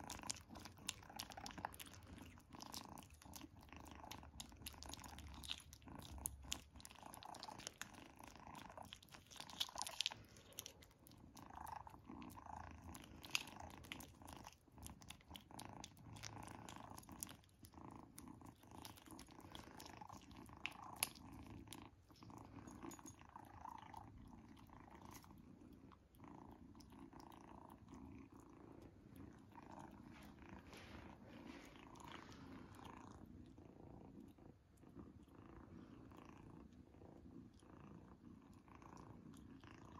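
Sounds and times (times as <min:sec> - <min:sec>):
cat purring: 0:00.0 - 0:39.9
kitten licking and smacking: 0:00.0 - 0:39.9.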